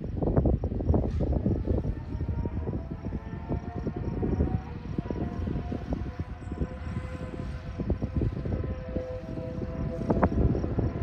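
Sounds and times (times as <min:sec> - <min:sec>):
steady high whine: 0:00.0 - 0:11.0.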